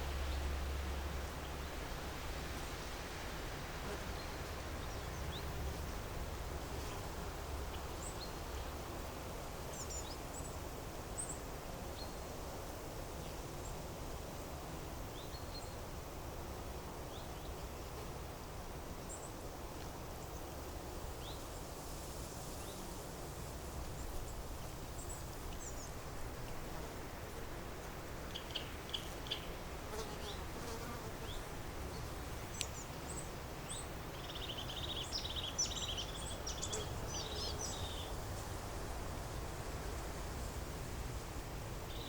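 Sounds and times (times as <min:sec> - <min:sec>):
low rush of background noise: 0:00.0 - 0:42.0.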